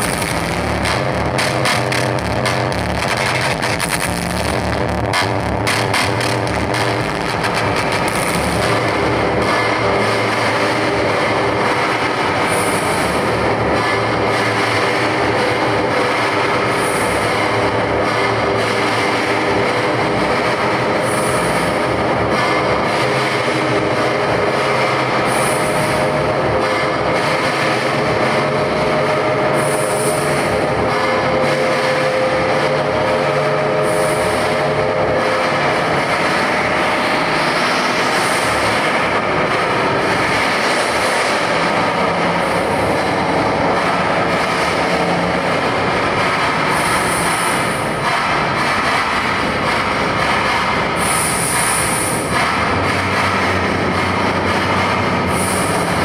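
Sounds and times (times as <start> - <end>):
loud rushing rumbling noise: 0.0 - 56.0.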